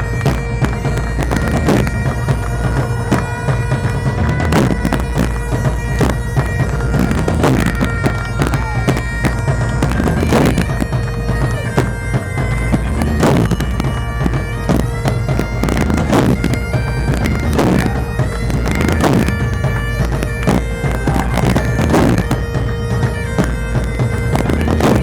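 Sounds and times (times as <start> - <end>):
bagpipes playing: 0.0 - 25.0
heavy drum strokes: 0.0 - 25.0.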